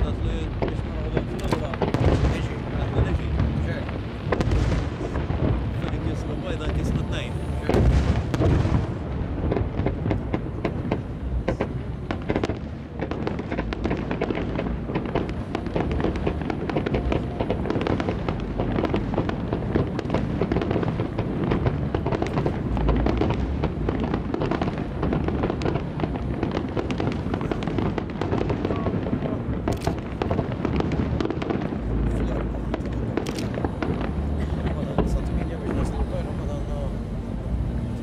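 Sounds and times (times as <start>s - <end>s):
deep firework rumbles: 0.0s - 38.0s
fireworks crackling: 0.0s - 38.0s.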